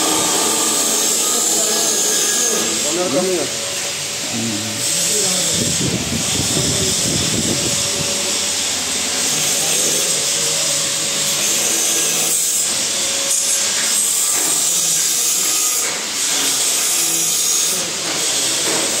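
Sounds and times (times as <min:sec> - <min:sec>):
loud steady hiss: 0:00.0 - 0:19.0.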